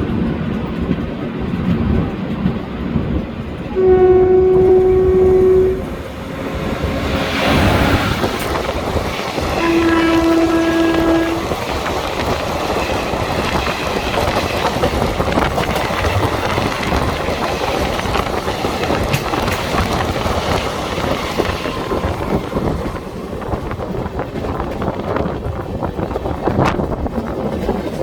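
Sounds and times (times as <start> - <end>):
train wheels clattering on track: 0.0 - 28.0.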